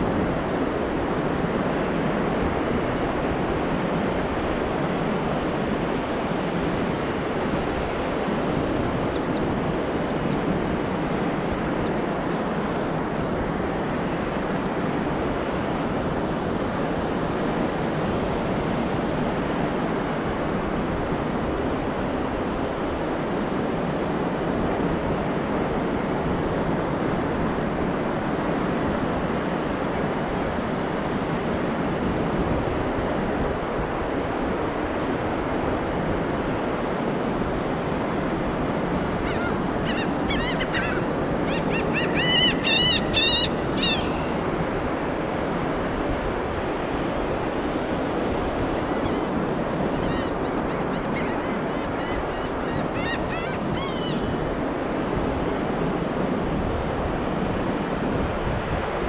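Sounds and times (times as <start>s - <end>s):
surf breaking on beach: 0.0s - 59.0s
wind rumbling on microphone: 0.0s - 59.0s.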